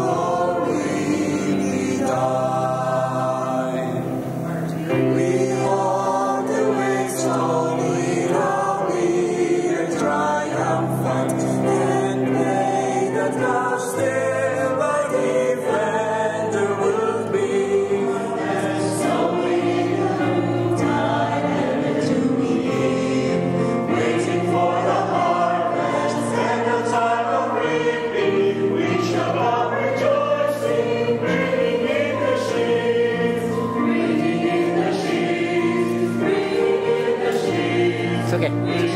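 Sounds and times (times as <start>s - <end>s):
choir singing: 0.0s - 38.9s
electronic keyboard: 0.0s - 38.9s.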